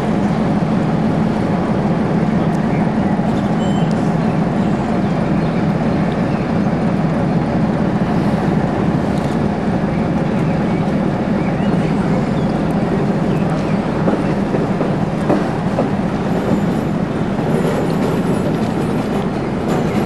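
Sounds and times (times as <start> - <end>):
heavy diesel engines droning: 0.0 - 20.0.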